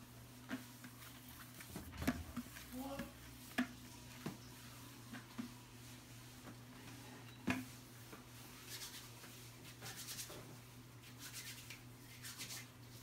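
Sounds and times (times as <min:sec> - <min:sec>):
faint rubbing and rustling: 0:00.3 - 0:13.0.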